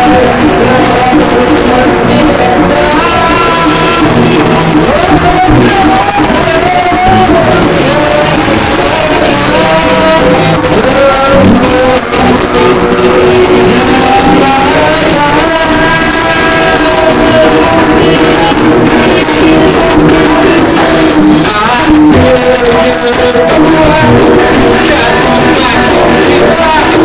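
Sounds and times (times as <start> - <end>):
loud rock music: 0.0 - 27.0.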